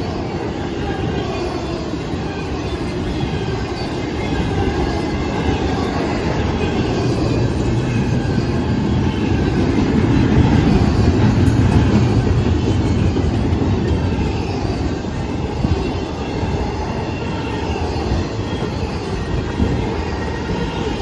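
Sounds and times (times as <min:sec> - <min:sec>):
clickety-clack over rail joints: 0:00.0 - 0:21.0
train wheels rumbling on rail: 0:00.0 - 0:21.0.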